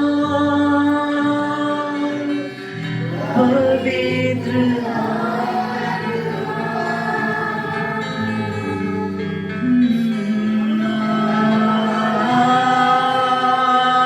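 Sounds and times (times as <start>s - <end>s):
sustained instrumental accompaniment: 2.2s - 14.0s.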